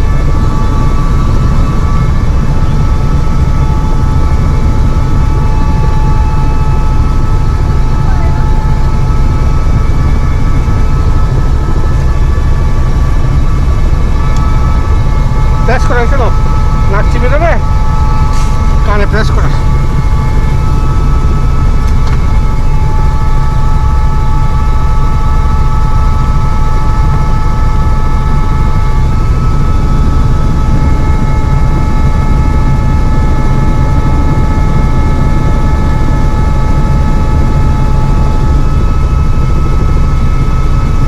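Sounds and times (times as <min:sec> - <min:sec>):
helicopter engine and rotors: 0:00.0 - 0:41.0.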